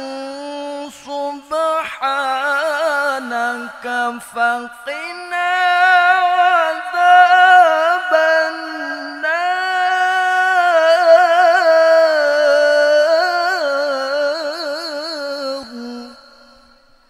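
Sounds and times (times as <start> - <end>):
man reciting melodically: 0.0 - 16.8.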